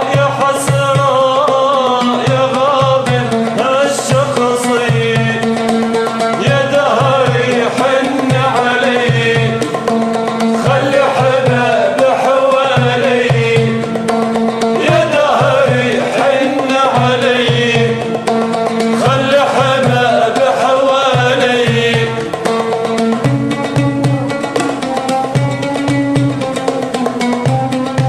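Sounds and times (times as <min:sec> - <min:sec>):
hand drum rhythm: 0:00.0 - 0:28.0
oud melody: 0:00.0 - 0:28.0.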